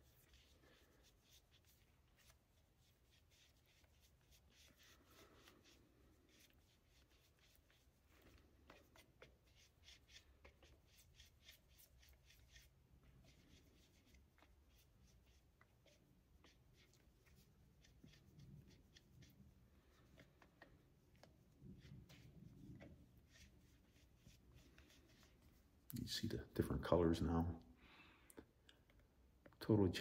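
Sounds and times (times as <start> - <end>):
paintbrush stirring resin in cup: 0.0 - 25.8.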